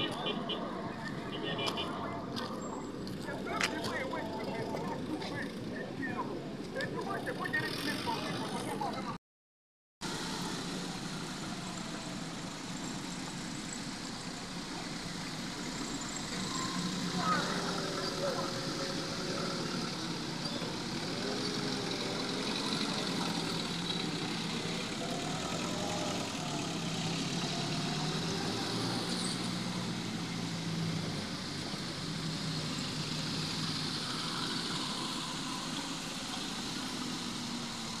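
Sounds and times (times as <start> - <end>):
vehicles driving slowly past: 0.0 - 9.2, 10.0 - 38.0.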